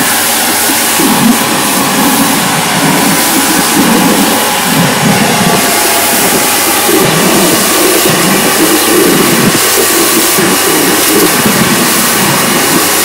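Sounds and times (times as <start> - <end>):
pressure washer running: 0.0 - 13.0
water jet hissing on paving: 0.0 - 13.0.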